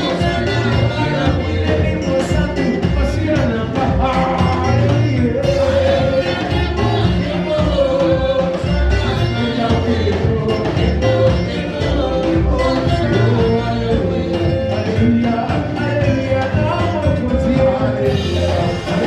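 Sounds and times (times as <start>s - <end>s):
live band playing upbeat groove: 0.0s - 19.0s
singers: 0.0s - 19.0s.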